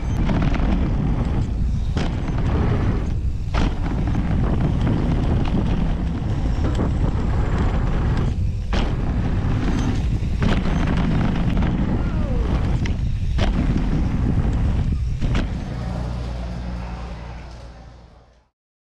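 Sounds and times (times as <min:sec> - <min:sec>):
wind buffeting microphone: 0:00.0 - 0:16.0
bike knocking and rattling: 0:00.0 - 0:17.8.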